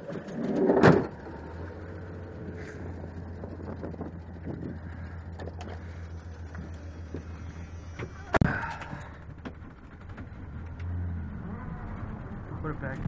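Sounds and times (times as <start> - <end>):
pickup truck engine idling: 1.1 - 13.0.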